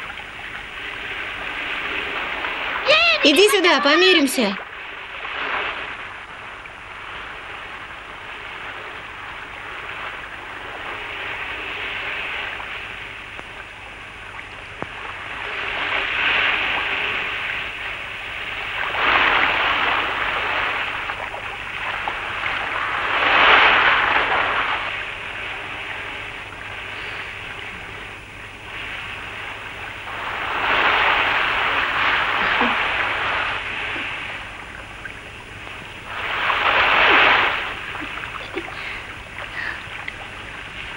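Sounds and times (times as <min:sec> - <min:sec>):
sea waves breaking on shore: 0:00.0 - 0:40.9
steady low hum: 0:00.0 - 0:40.9.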